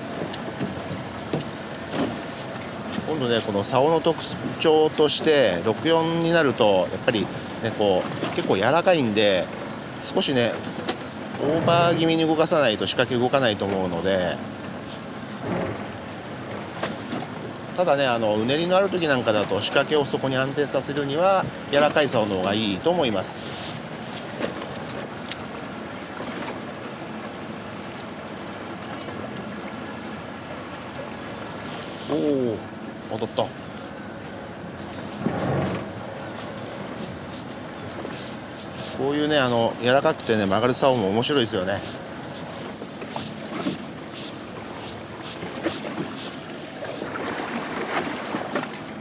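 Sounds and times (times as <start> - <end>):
sea noise: 0.0 - 49.0
water washing around hull: 0.0 - 49.0
wind: 0.0 - 49.0.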